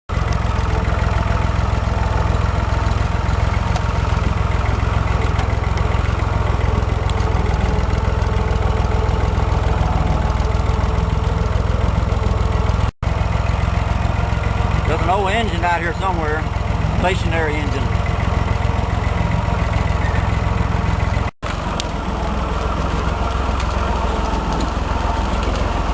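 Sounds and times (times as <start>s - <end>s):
vehicle engine running: 0.1s - 25.9s.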